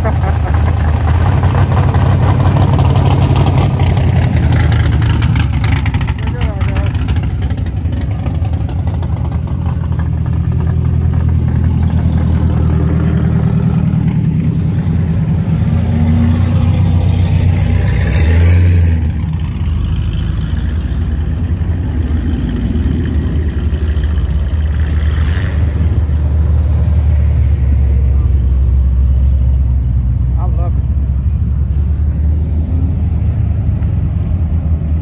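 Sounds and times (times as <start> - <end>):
cars rolling past: 0.0 - 35.0.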